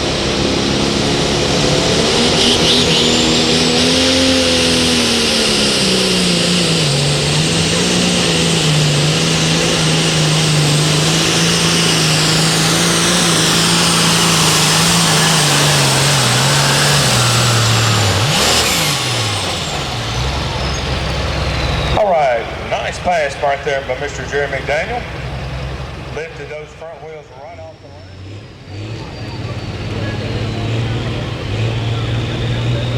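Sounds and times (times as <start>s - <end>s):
high whine: 0.0s - 32.9s
tractor diesel engine at full throttle: 0.0s - 32.9s.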